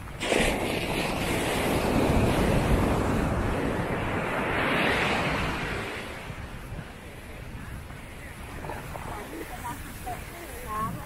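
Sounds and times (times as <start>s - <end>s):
surf rushing up beach: 0.0s - 11.0s.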